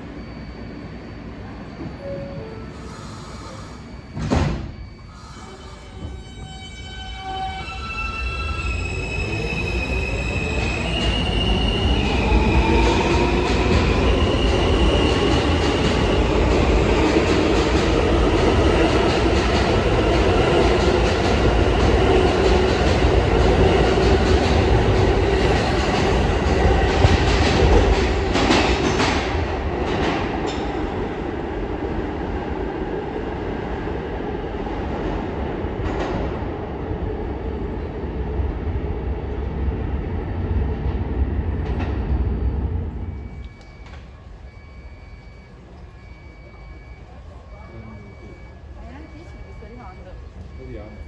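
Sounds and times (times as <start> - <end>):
subway train wheels rumbling: 0.0 - 51.0.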